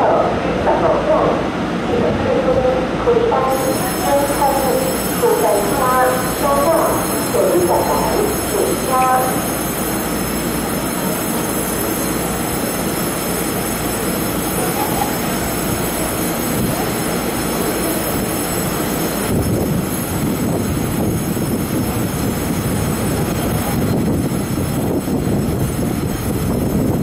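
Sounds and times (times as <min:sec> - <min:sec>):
electric train hum and hiss: 0:00.0 - 0:27.0.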